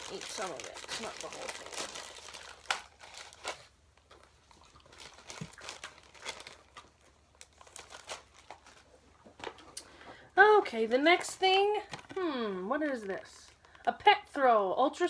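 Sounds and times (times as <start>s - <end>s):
plastic wrapper crinkling and tearing: 0.0s - 9.8s, 11.1s - 13.9s.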